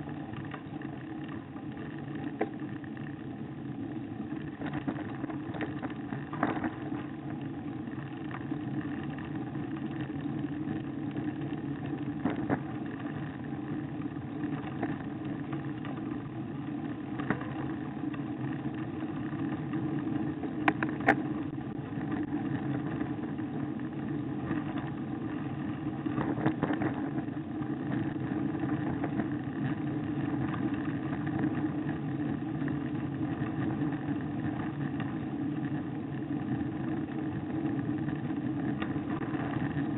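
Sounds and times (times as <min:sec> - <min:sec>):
road vibration and wind rumble: 0:00.0 - 0:39.9.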